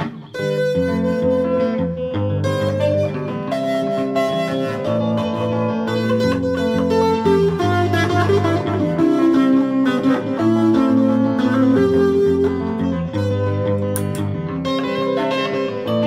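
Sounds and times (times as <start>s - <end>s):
electric guitar: 0.0s - 16.0s.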